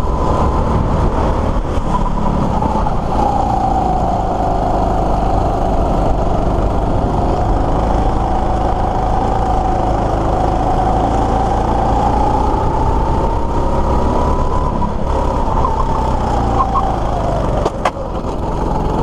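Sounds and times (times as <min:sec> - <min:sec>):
go-kart engine whine: 0:00.0 - 0:19.0.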